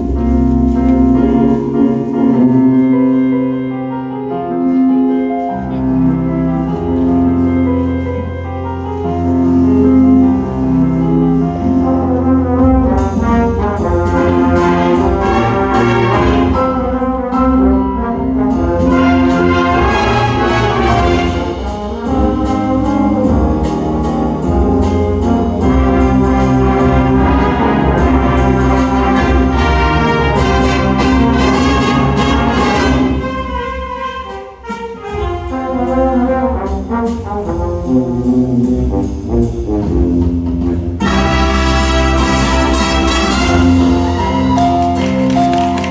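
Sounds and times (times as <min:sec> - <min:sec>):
brass sustained chords: 0:00.0 - 0:45.9
wind ensemble playing: 0:00.0 - 0:45.9.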